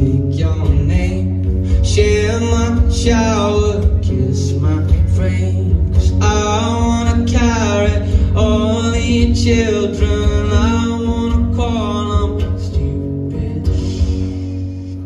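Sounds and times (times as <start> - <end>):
bass guitar: 0.0 - 15.0
drums: 0.0 - 15.0
electric guitar: 0.0 - 15.0
man singing: 0.0 - 15.0.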